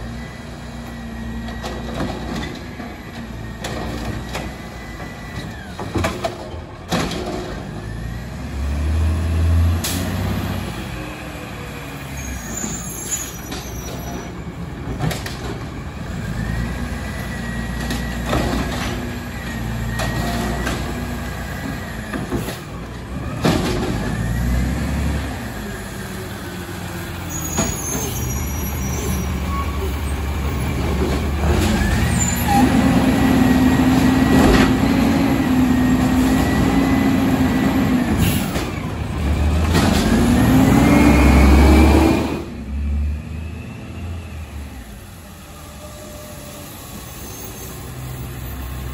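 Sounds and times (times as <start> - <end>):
garbage truck diesel engine: 0.0 - 48.9.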